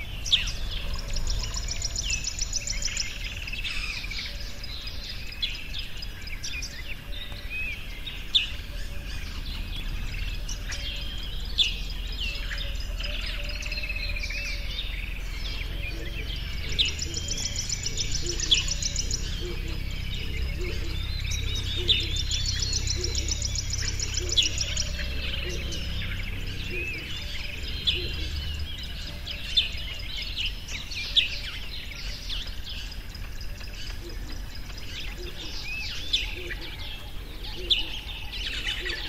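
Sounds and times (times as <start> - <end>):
birds singing and chirping: 0.0 - 39.0.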